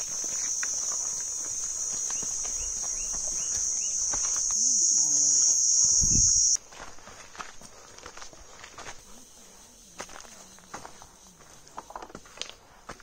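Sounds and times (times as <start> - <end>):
footsteps on a rocky trail: 0.0 - 4.9, 6.6 - 13.0
forest insects droning: 0.0 - 13.0.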